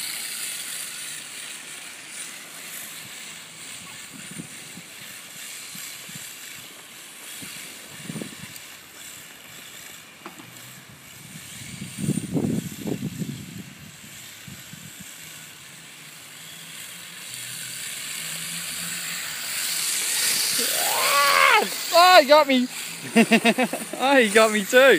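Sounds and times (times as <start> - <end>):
remote control cars on asphalt: 0.0 - 24.9.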